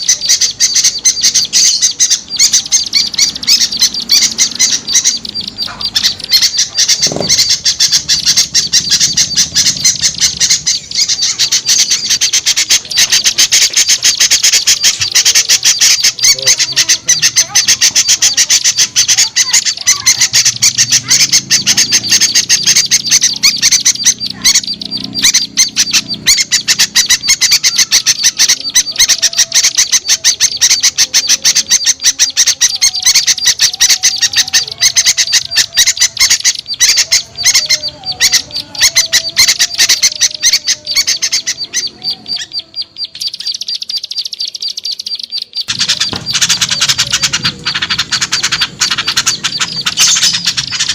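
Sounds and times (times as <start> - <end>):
small birds chattering: 0.0 - 50.9.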